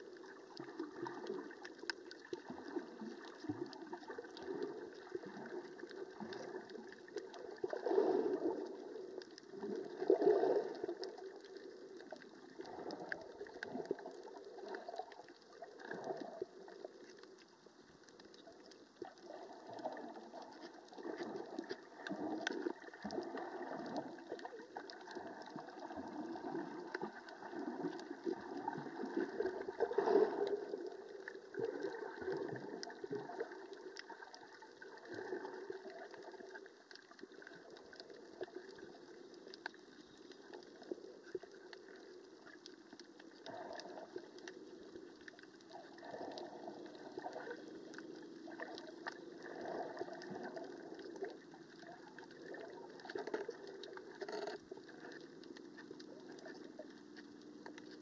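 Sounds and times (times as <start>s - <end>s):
muffled underwater water noise: 0.0s - 58.0s
faint rapid clicking: 8.5s - 58.0s.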